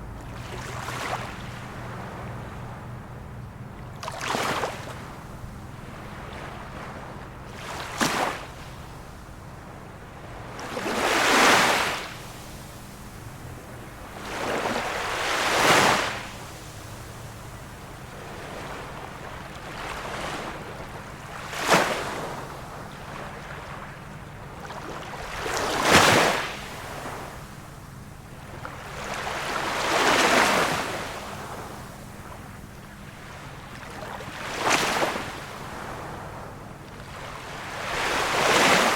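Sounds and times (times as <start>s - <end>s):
small sea waves washing in: 0.0s - 3.0s, 3.9s - 27.7s, 28.3s - 38.9s
faint steady low hum: 0.0s - 38.9s.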